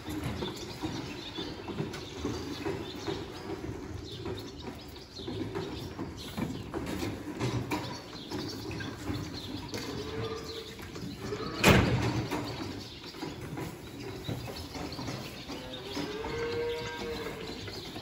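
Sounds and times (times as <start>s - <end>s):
metal gates and buckets rattling: 0.0s - 18.0s.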